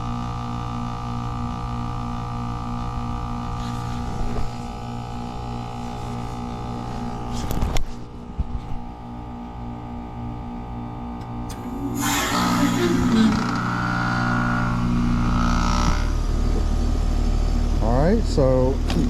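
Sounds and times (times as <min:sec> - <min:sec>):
heat pump droning hum: 0:00.0 - 0:19.0.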